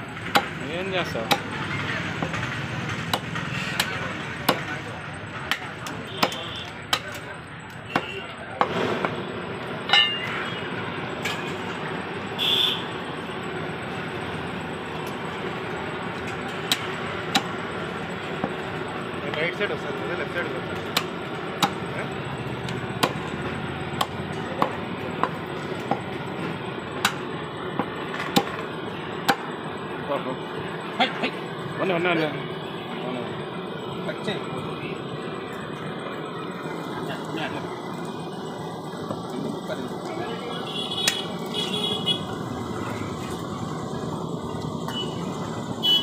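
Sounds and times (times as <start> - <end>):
street traffic noise: 0.0 - 46.0.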